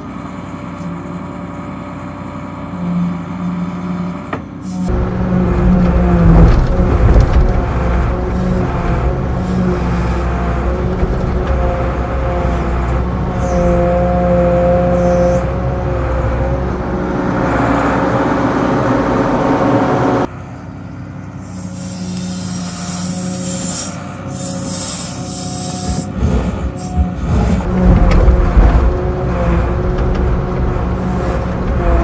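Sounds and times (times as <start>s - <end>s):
diesel excavator engine under load: 0.0s - 32.0s
hydraulic whine: 0.7s - 32.0s.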